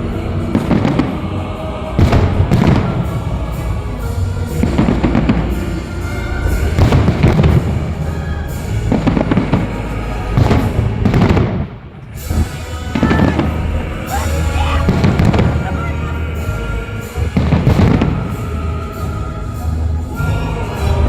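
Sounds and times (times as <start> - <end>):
fireworks bursting: 0.0 - 20.3
music playing: 0.0 - 21.0.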